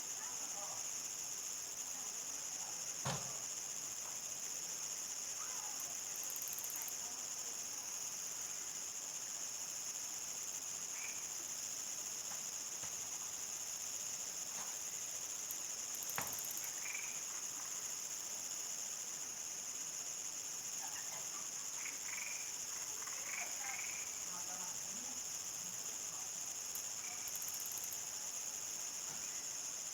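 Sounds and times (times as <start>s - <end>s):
crickets chirping chorus: 0.0s - 29.9s.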